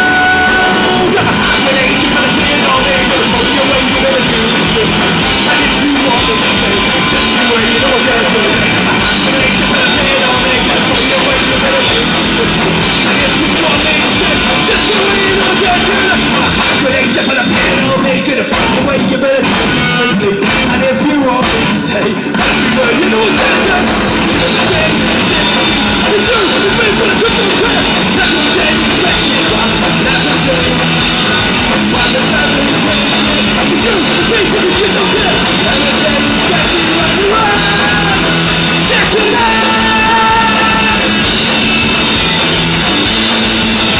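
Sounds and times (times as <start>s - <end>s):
live rock band playing loud: 0.0s - 43.9s.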